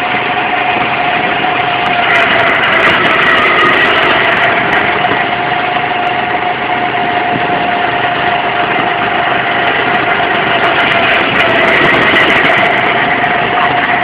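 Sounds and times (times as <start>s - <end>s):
go-kart engine droning: 0.0s - 14.0s.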